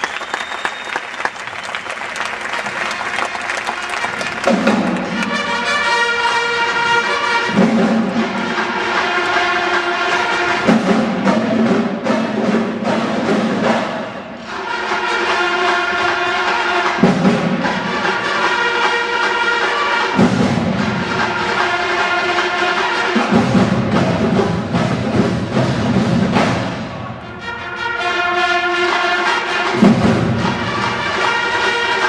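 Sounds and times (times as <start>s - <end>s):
marching band playing: 0.0s - 32.0s.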